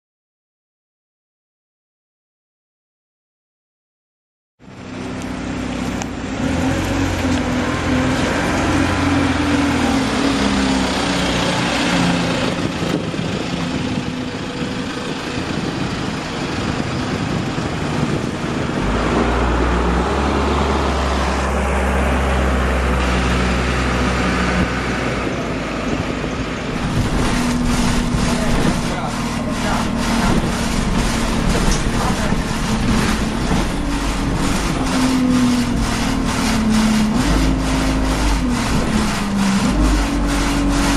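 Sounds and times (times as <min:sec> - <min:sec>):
bus engine humming: 0:04.6 - 0:40.9.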